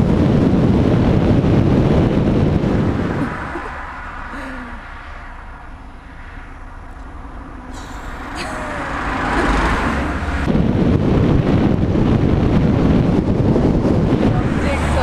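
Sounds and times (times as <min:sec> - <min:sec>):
wind buffeting microphone: 0:00.0 - 0:15.0
vehicle passing by: 0:01.6 - 0:15.0.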